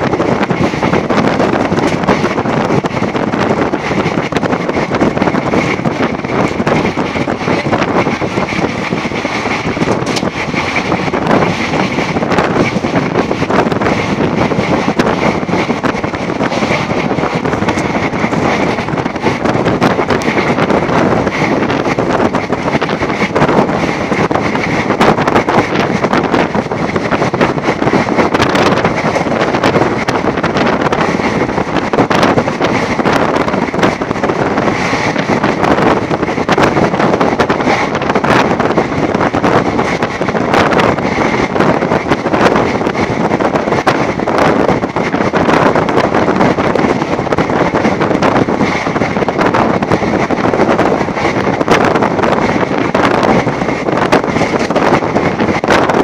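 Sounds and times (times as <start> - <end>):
train running noise: 0.0 - 56.0
wind buffeting microphone: 0.0 - 56.0.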